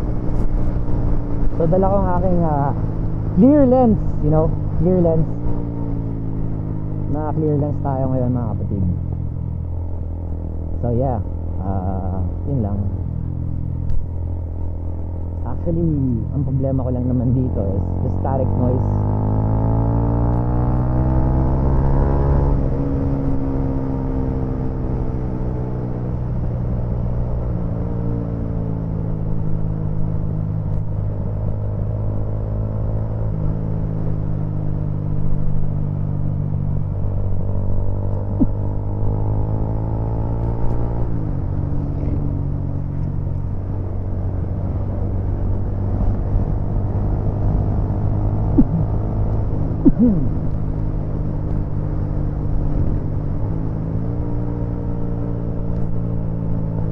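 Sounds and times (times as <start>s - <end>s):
low wind rumble on microphone: 0.0s - 56.9s
motorcycle engine running: 0.0s - 56.9s.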